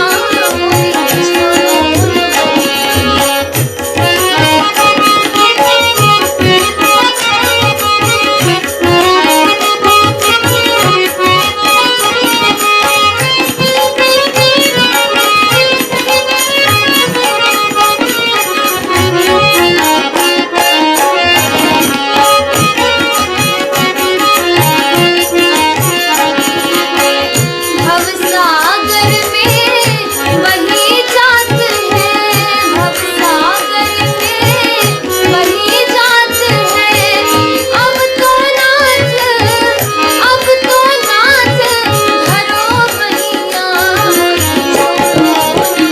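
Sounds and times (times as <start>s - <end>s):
sustained melodic accompaniment: 0.0s - 45.9s
tabla rhythm: 0.0s - 45.9s.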